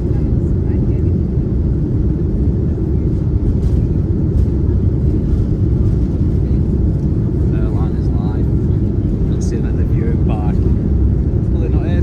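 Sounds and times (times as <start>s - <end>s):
jet engines rumbling in cabin: 0.0s - 12.0s.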